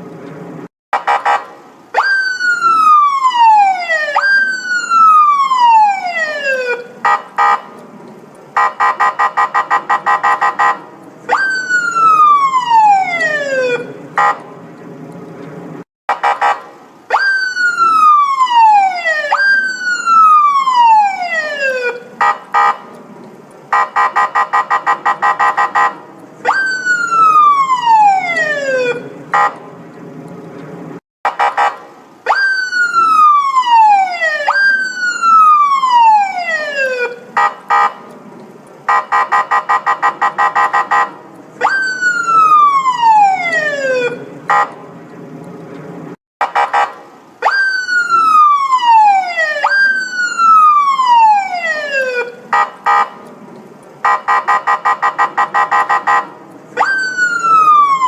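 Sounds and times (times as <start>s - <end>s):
police siren: 0.9s - 7.8s, 8.5s - 14.5s, 16.1s - 23.0s, 23.7s - 29.7s, 31.3s - 38.1s, 38.8s - 44.8s, 46.4s - 53.3s, 54.0s - 58.0s.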